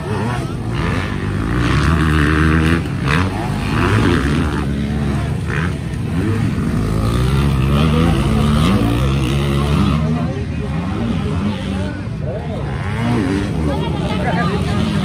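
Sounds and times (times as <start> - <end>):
dirt bikes revving past: 0.0 - 15.0.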